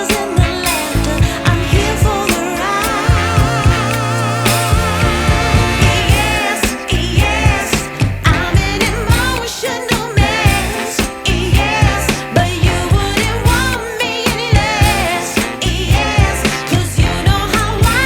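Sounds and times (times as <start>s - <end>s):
pop soul song with singing: 0.0s - 18.0s.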